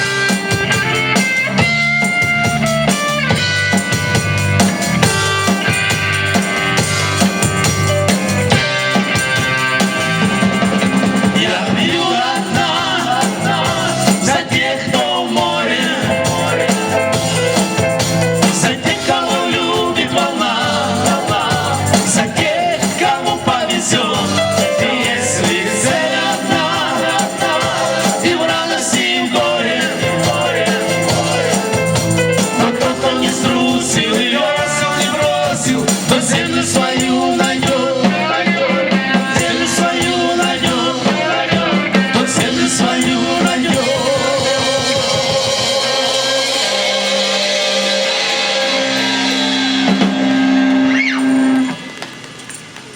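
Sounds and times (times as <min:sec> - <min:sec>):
shaker percussion: 0:00.0 - 0:38.4, 0:39.0 - 0:49.8, 0:50.9 - 0:52.9
band playing a song: 0:00.0 - 0:52.9
drums: 0:00.0 - 0:52.9.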